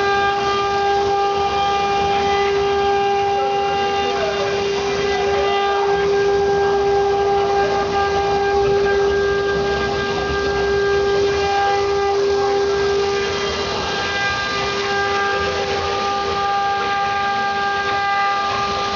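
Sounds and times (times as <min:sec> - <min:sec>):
router bit cutting wood: 0:00.0 - 0:18.9
router spindle whining: 0:00.0 - 0:18.9.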